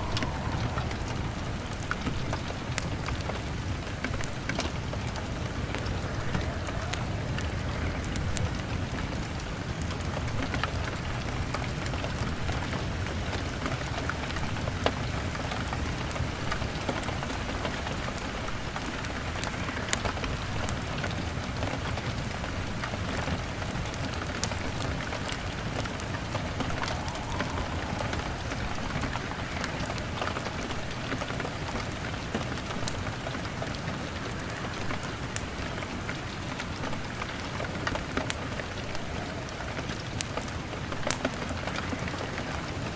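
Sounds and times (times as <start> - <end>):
fire crackling: 0.0 - 42.9
rain on window glass: 0.0 - 42.9.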